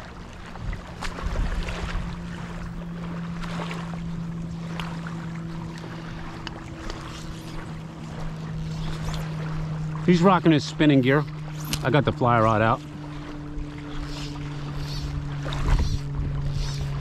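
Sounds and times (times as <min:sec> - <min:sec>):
distant boat engine droning: 0:00.0 - 0:17.0
water noise: 0:00.0 - 0:17.0
wind: 0:00.0 - 0:17.0.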